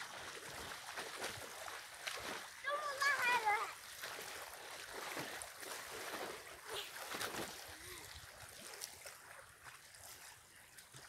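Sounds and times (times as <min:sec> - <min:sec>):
people splashing in water: 0:00.0 - 0:11.0.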